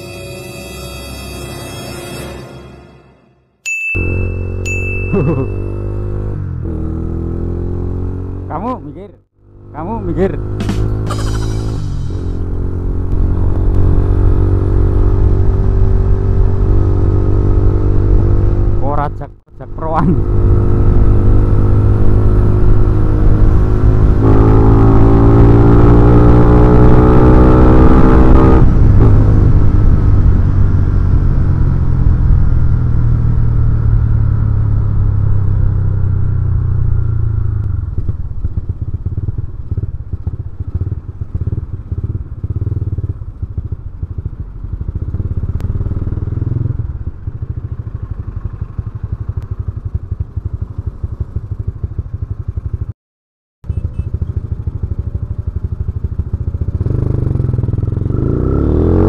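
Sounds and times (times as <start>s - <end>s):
motorcycle engine running: 4.0s - 52.9s, 53.6s - 59.0s.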